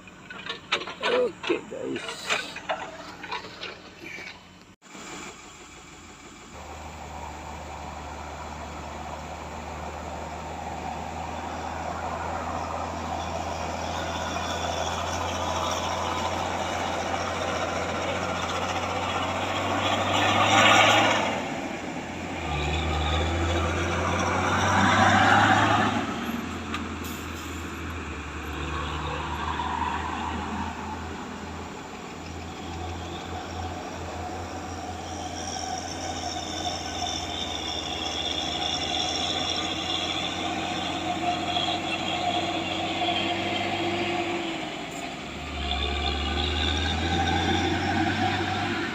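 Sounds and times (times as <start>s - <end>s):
excavator diesel engine: 0.0s - 48.9s.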